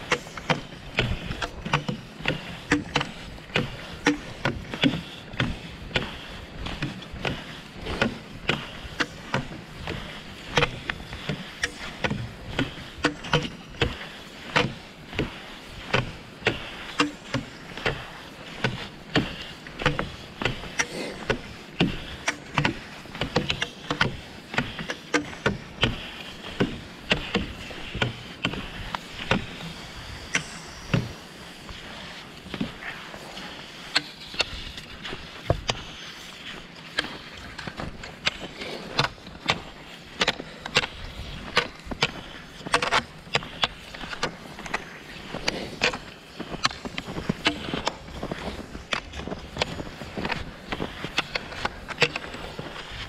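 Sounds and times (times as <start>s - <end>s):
ski poles and skis clicking: 0.0s - 53.0s
skis scraping on snow: 0.0s - 53.0s.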